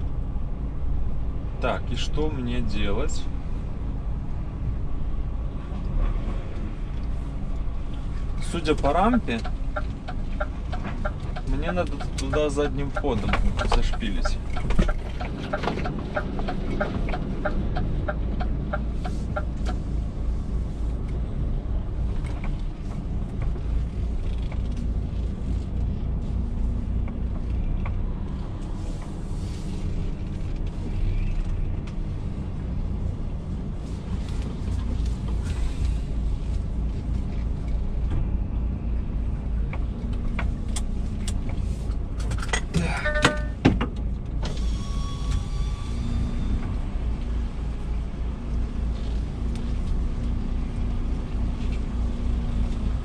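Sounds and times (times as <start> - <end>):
truck diesel engine rumbling: 0.0 - 53.0.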